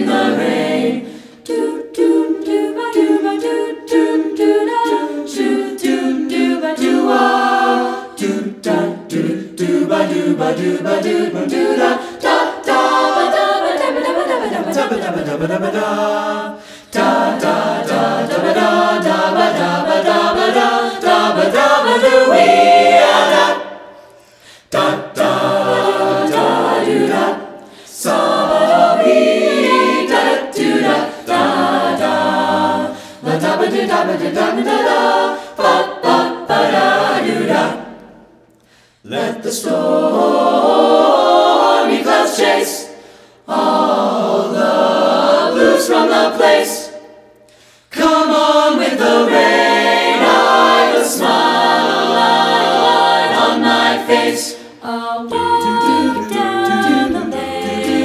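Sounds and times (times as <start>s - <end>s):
a cappella vocal ensemble singing: 0.0s - 58.0s.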